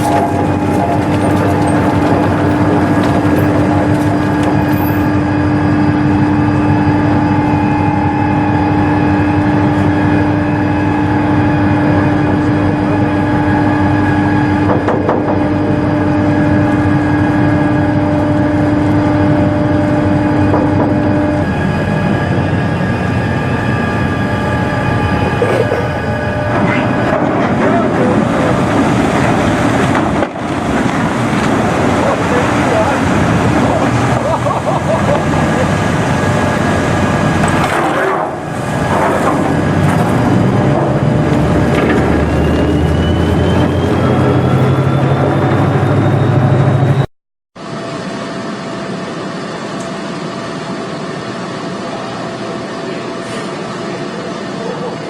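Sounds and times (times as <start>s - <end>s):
loud mechanical drone: 0.0s - 55.0s.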